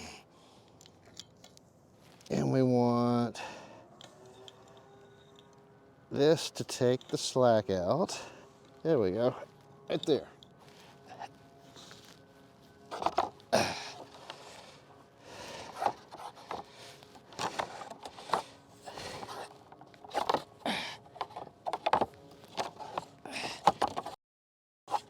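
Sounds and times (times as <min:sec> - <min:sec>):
rope and rigging scraping and knocking: 0:04.0 - 0:24.2.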